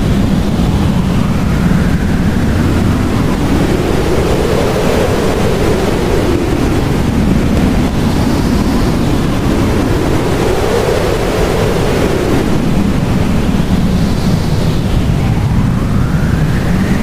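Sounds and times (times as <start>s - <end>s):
blizzard wind blowing hard: 0.0s - 17.0s.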